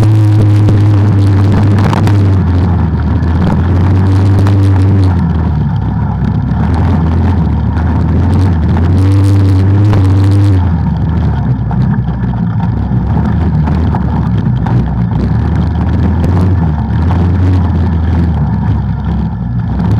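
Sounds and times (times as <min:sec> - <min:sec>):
knocks and rattles: 0:00.0 - 0:19.9
off-road vehicle engine running: 0:00.0 - 0:19.9.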